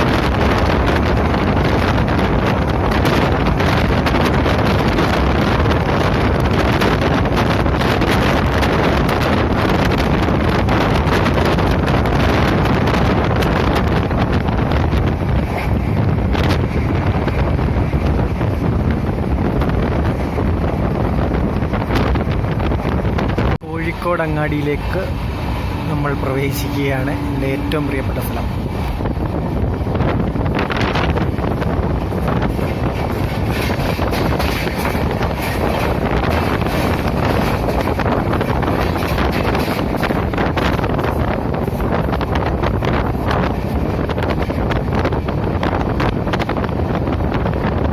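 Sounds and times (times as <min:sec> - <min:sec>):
train wheels rumbling: 0:00.0 - 0:47.9
wind buffeting microphone: 0:00.0 - 0:47.9.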